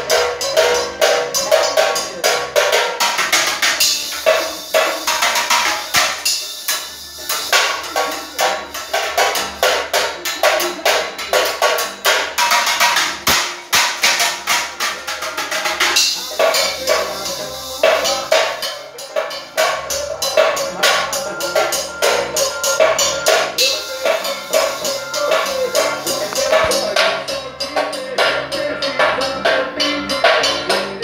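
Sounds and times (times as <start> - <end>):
drumsticks on tin-can drums: 0.0 - 31.0.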